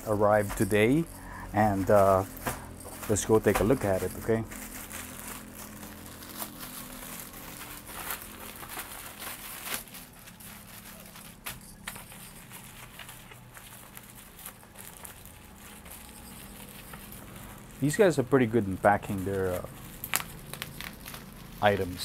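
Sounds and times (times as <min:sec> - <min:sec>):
plastic bag tearing: 0:00.0 - 0:22.0
plastic packaging crinkling: 0:00.0 - 0:22.0.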